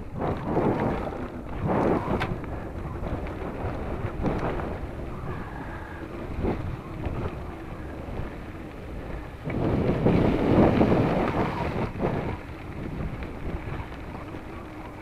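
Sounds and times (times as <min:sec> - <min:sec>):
tyres rolling on gravel: 0:00.0 - 0:15.0
wind buffeting microphone: 0:00.0 - 0:15.0.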